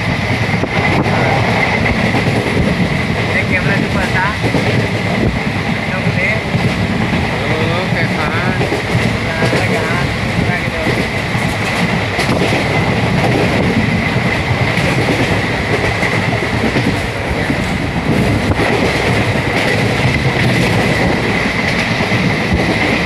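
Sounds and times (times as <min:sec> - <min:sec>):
rail clicks: 0:00.0 - 0:23.0
train rumbling on track: 0:00.0 - 0:23.0.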